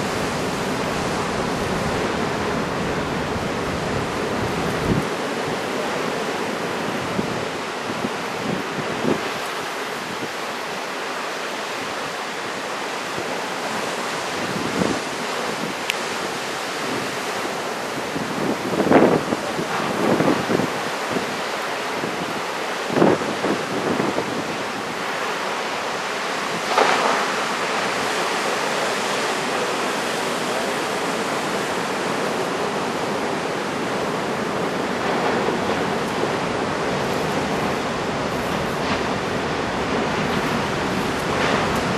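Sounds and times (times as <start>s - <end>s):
heavy surf roaring: 0.0s - 41.9s
wind blowing on microphone: 0.0s - 41.9s.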